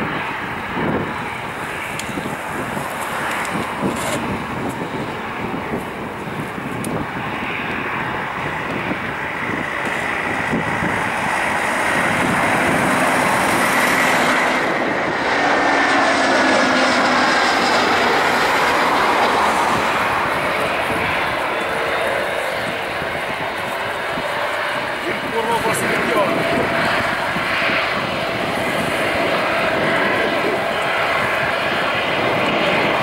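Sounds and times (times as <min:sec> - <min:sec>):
faint engine whine: 0:00.0 - 0:33.0
jet engine rumble: 0:00.0 - 0:33.0.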